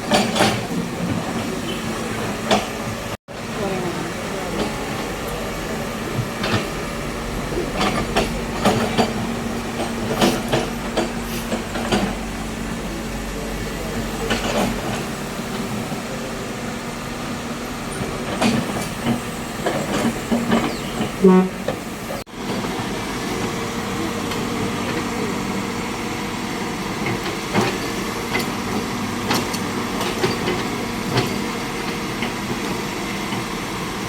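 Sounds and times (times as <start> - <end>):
heavy machinery humming: 0.0 - 34.0.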